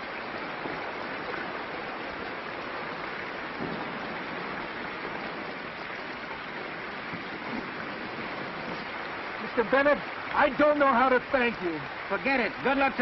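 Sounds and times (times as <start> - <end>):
old film soundtrack hiss: 0.0 - 13.0.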